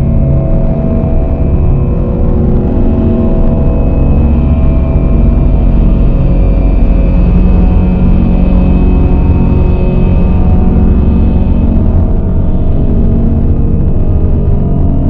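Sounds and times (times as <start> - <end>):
dark ambient drone music: 0.0 - 15.0.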